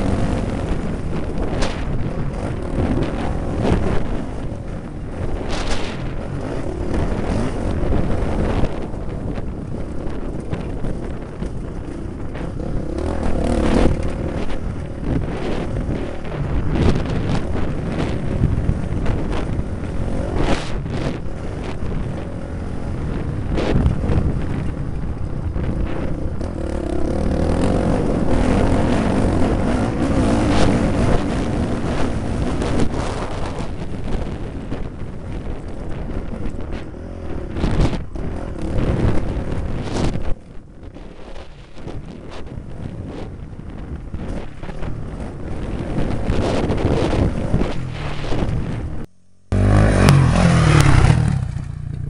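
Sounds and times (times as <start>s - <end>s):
dirt bike engine: 0.0s - 52.0s
wind buffeting microphone: 0.0s - 52.0s.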